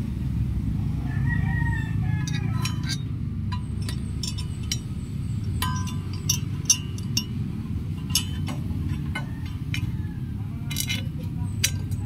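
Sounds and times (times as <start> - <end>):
low background rumble: 0.0 - 12.0
metal brackets clinking: 2.1 - 12.0.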